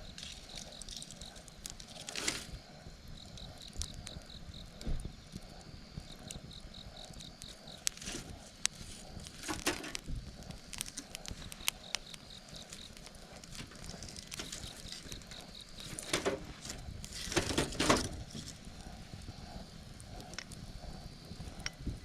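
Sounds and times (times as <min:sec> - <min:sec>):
campfire crackling and popping: 0:00.0 - 0:22.0
fire flaring and rustling: 0:00.0 - 0:22.0
insect chirping in pulses: 0:00.0 - 0:22.0.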